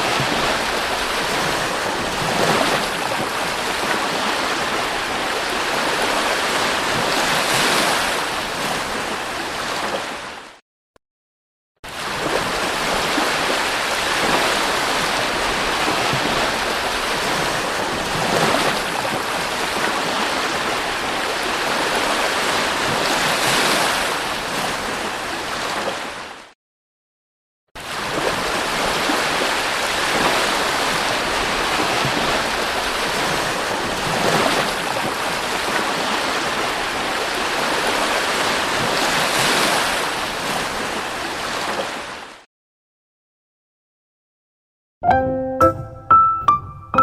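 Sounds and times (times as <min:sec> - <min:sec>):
sea surf breaking on a beach: 0:00.0 - 0:10.5, 0:11.9 - 0:26.4, 0:27.8 - 0:42.4.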